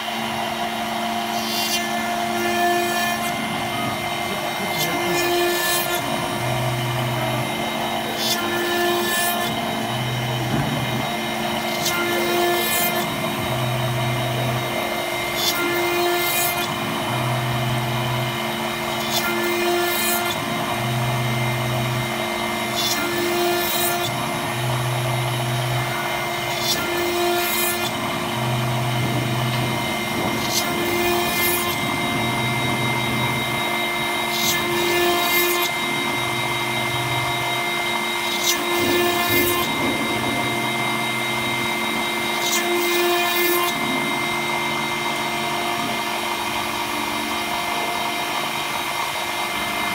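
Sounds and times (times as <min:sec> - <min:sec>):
low buzz: 0:00.0 - 0:49.9
router spindle high whine: 0:00.0 - 0:49.9.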